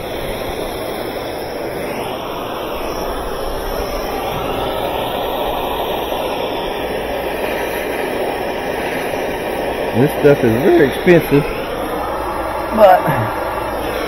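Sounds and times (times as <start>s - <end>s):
heat gun rushing: 0.0s - 14.0s.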